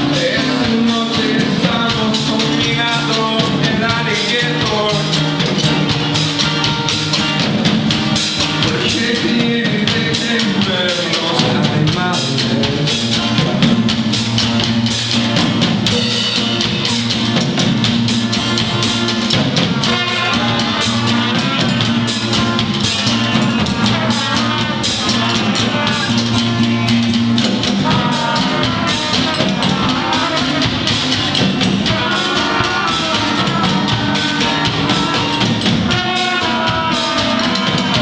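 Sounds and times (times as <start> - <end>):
instrumental band music: 0.0 - 38.0.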